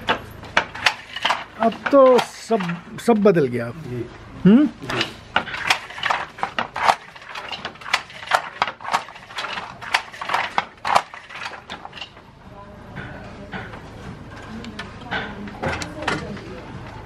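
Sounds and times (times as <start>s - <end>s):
wooden handloom clacking: 0.0s - 3.4s, 4.8s - 12.3s, 12.9s - 17.0s.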